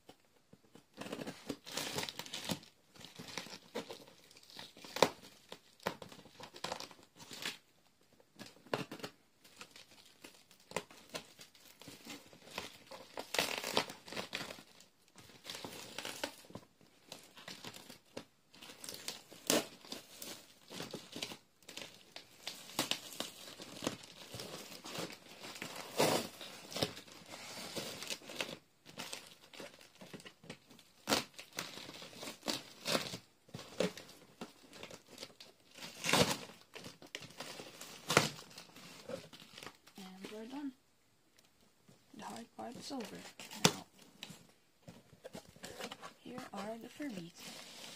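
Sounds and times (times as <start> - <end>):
plastic wrapping crinkling: 0.7 - 7.6, 8.4 - 47.9
tape tearing: 0.8 - 7.6, 8.4 - 40.6, 42.2 - 44.5, 45.1 - 47.9.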